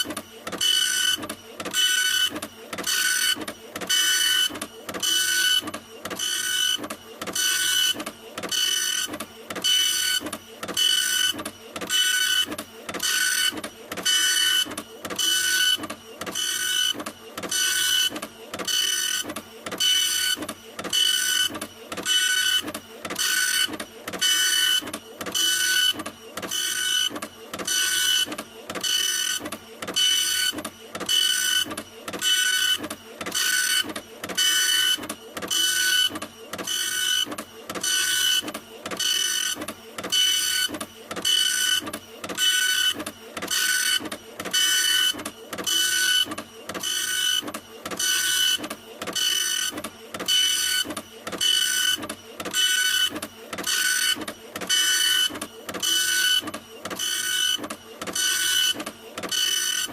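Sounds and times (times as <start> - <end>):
printer running with whining strokes: 0.0 - 59.9.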